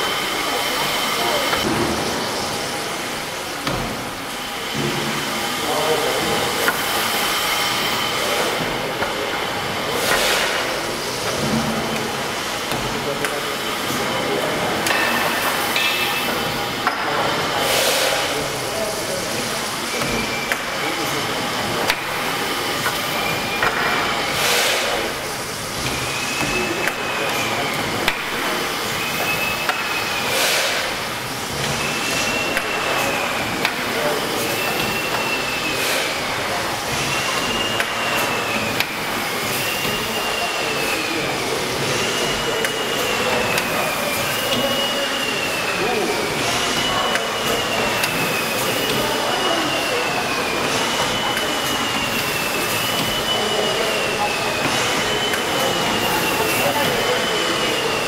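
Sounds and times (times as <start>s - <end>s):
steam engine squealing: 0.0s - 3.6s, 4.2s - 58.0s
steam hissing: 0.0s - 58.0s.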